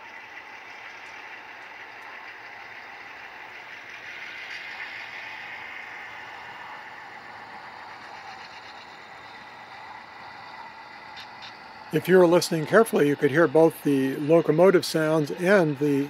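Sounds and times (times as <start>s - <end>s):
model diesel engine sound: 0.0s - 16.0s
steam generator sound: 0.0s - 16.0s.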